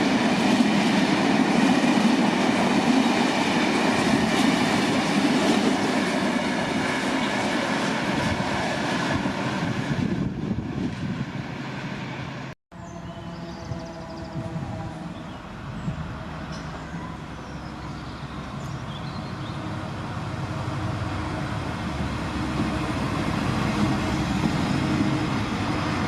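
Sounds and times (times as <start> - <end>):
freight train wheels on rails: 0.0 - 12.6, 13.4 - 26.0.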